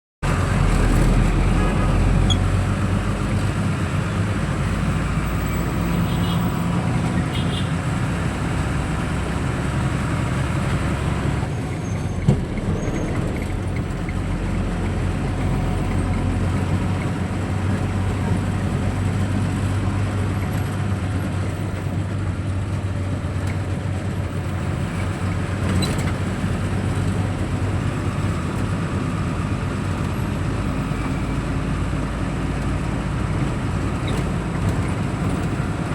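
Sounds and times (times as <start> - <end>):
vehicle engine hum with road noise: 0.2 - 35.9.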